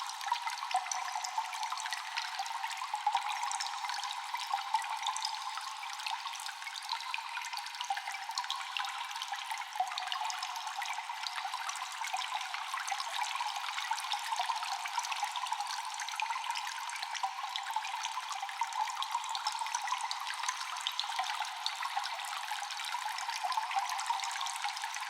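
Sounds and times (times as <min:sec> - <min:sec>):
water dripping in a cave: 0:00.0 - 0:25.0.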